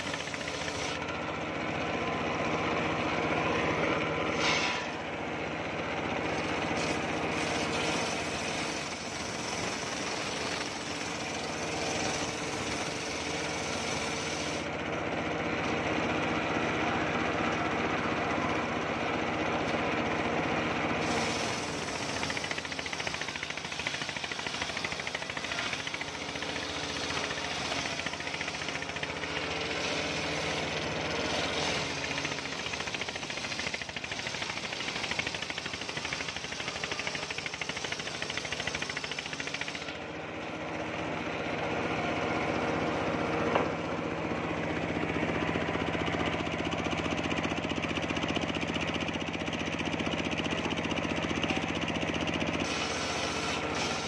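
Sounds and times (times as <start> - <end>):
circular saw cutting wood: 0.0 - 54.0
motor drone: 0.0 - 54.0.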